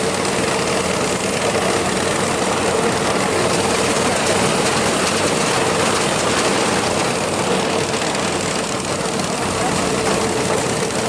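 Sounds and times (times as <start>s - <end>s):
dense mechanical rattle: 0.0s - 11.0s
farm machine engine running: 0.0s - 11.0s.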